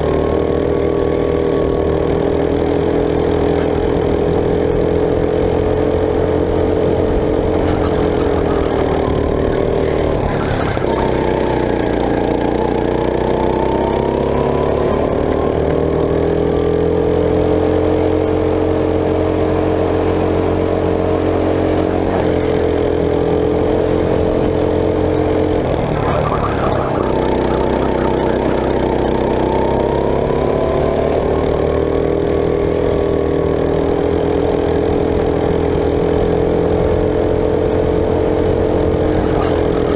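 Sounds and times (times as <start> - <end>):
go-kart engine at high revs: 0.0 - 39.9.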